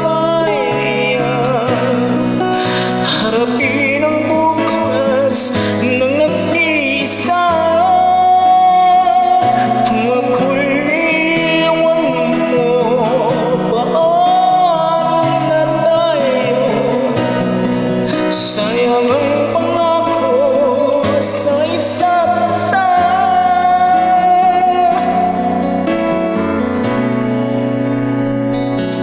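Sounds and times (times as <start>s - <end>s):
instrumental backing music: 0.0s - 29.0s
person singing a ballad: 0.0s - 29.0s.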